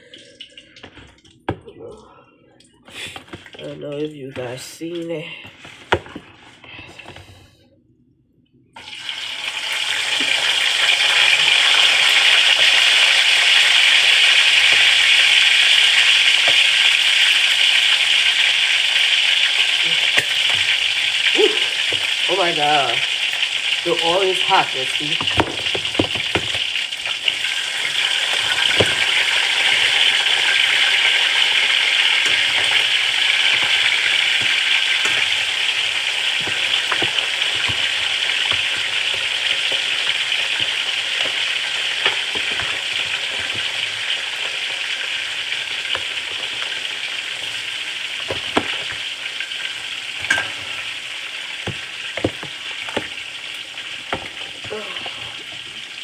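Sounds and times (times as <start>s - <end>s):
food sizzling in hot oil: 8.8s - 56.0s.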